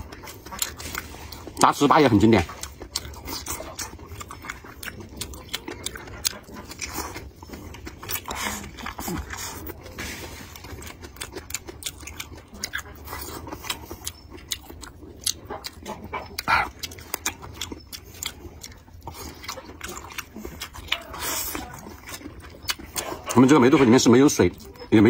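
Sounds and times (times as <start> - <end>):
person chewing and lip-smacking: 0.0 - 25.0.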